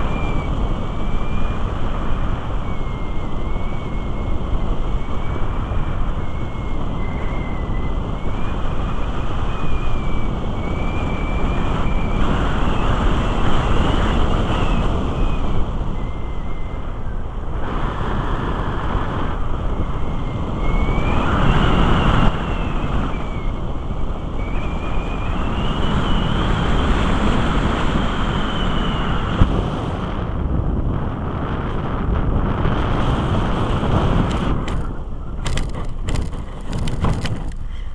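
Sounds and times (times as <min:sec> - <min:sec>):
airflow rushing over microphone: 0:00.0 - 0:37.9.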